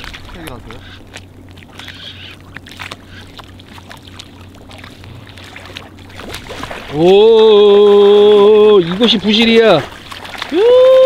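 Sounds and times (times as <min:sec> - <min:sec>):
steady low hum: 0:00.0 - 0:11.0
water lapping against boat hull: 0:00.0 - 0:11.0.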